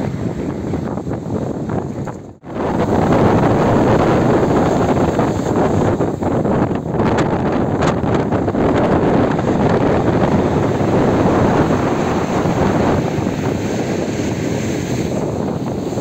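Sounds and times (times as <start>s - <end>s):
storm waves breaking: 0.0s - 16.0s
wind buffeting microphone: 0.0s - 16.0s.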